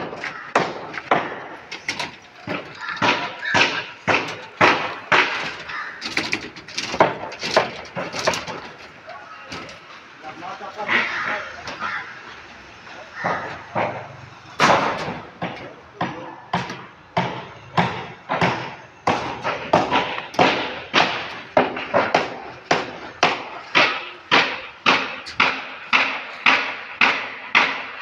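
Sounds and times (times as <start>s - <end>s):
hammer blows: 0.0s - 12.2s, 13.2s - 28.0s.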